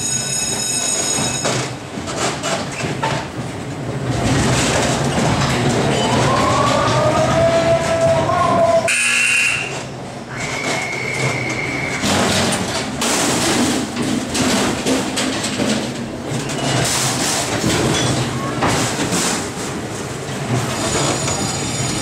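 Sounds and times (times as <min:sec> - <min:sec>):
ride car rattling along track: 0:00.0 - 0:22.0.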